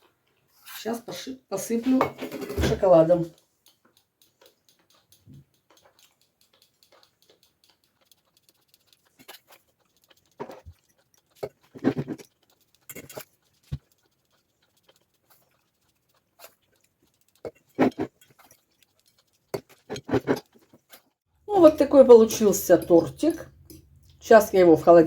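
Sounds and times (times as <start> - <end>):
chocolate sprinkles ticking: 2.8 - 25.0.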